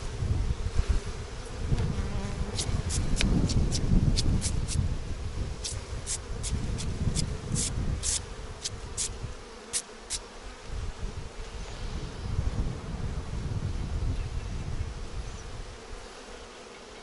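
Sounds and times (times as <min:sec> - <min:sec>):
bees buzzing: 0:00.0 - 0:12.5, 0:14.8 - 0:17.0.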